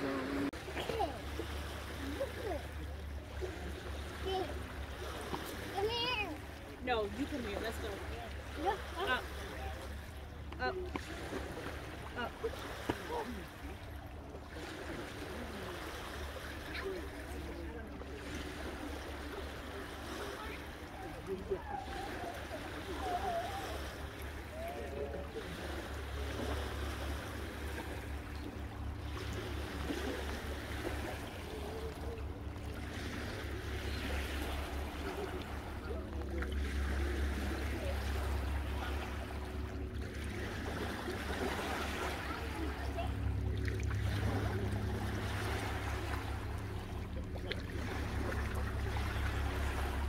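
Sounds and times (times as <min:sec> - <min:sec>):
waves lapping on pebbles: 0:00.0 - 0:50.0.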